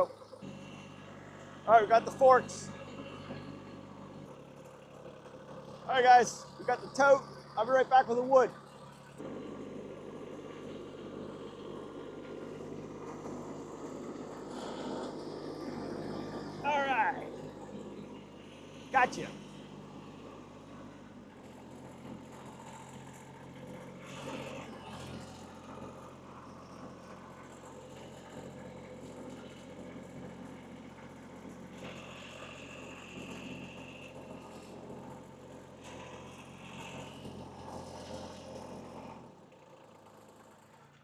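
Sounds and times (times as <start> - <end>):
tractor diesel engine: 0.0 - 41.0.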